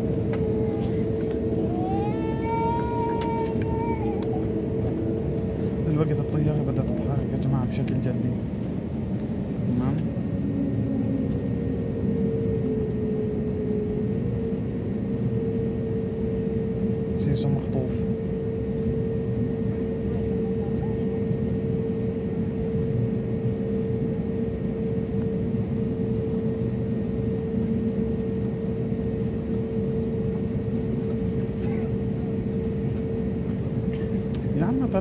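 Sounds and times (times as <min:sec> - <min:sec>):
jet engine rumble: 0:00.0 - 0:35.0.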